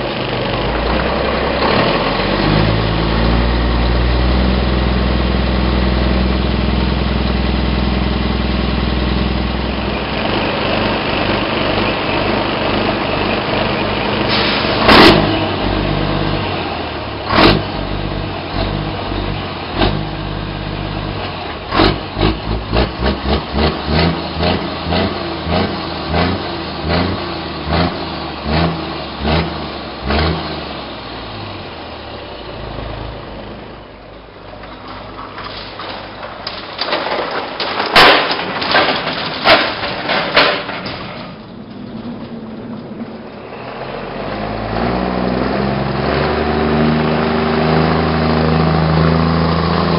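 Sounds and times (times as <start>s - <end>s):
truck diesel engine running: 0.0s - 35.4s, 38.3s - 49.9s.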